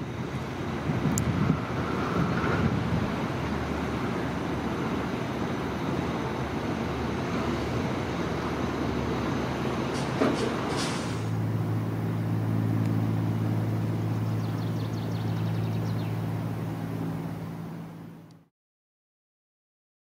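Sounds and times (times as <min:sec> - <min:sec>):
ship engine rumble: 0:00.0 - 0:18.4.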